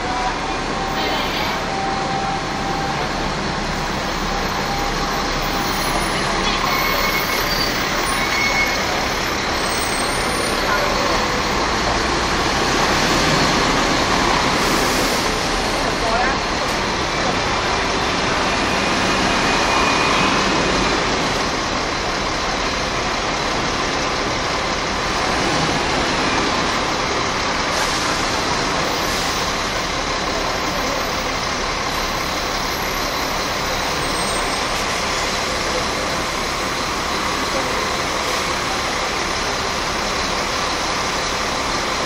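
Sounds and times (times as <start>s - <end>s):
buses running in background: 0.0s - 42.0s
diesel bus passing: 0.0s - 42.0s.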